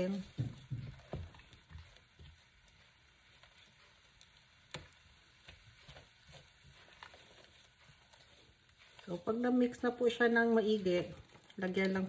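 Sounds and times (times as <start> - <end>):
faint sizzling in a pan: 0.0 - 12.0.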